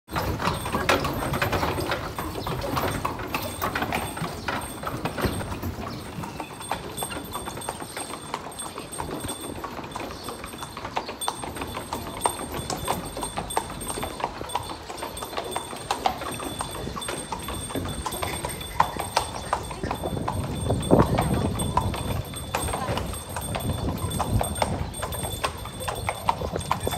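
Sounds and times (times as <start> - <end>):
hooves clip-clopping on stone: 0.1 - 26.9.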